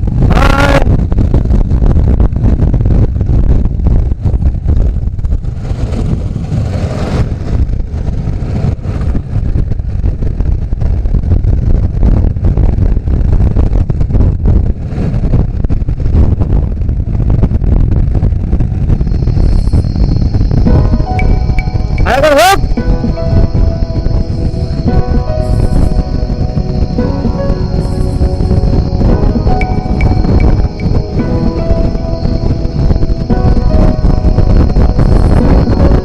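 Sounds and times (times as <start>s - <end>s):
road noise: 0.0s - 36.0s
wind buffeting microphone: 0.0s - 36.0s.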